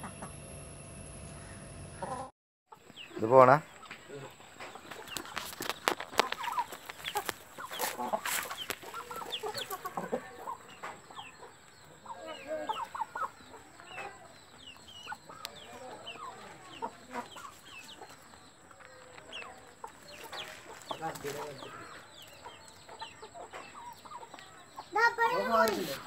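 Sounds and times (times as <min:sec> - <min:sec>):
chickens clucking: 0:02.0 - 0:26.0.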